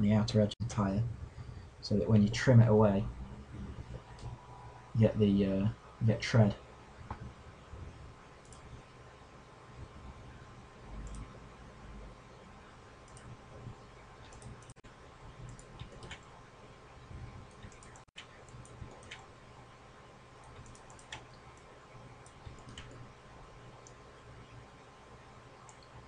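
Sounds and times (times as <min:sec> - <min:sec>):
faint background hum: 0:00.0 - 0:26.0.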